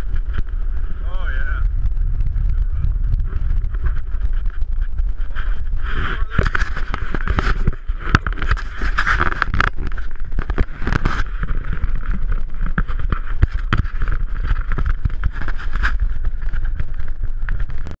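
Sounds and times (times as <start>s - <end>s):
snow tube scraping down snow: 0.0s - 17.9s
wind buffeting microphone: 0.0s - 18.0s.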